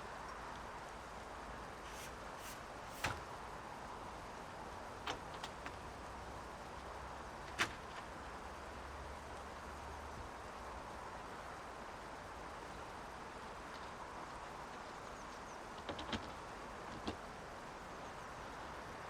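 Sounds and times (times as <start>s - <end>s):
rain: 0.0s - 19.0s.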